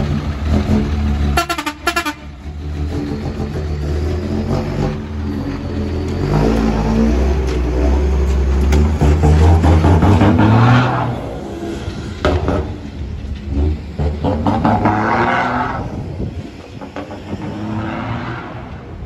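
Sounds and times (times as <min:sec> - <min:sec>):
diesel truck engine revving: 0:00.0 - 0:19.0.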